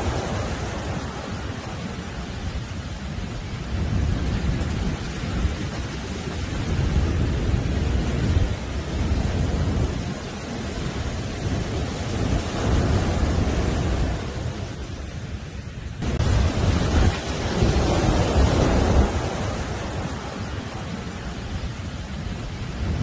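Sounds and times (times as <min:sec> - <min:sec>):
deep surf rumble: 0:00.0 - 0:23.0
waves breaking on beach: 0:00.0 - 0:23.0.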